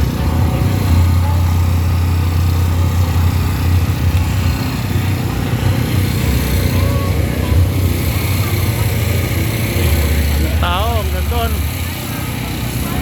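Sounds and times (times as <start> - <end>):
outdoor event crowd rumble: 0.0 - 13.0.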